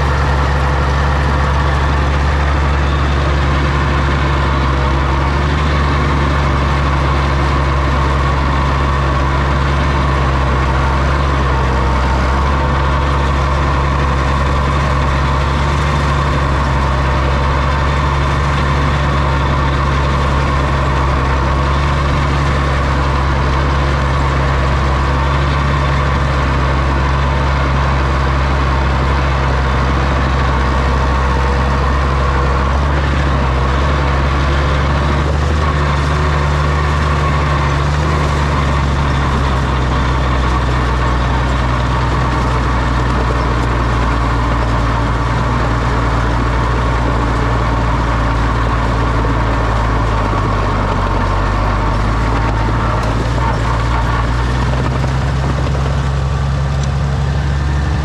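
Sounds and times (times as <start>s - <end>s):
crawler tractor engine running: 0.0s - 58.0s.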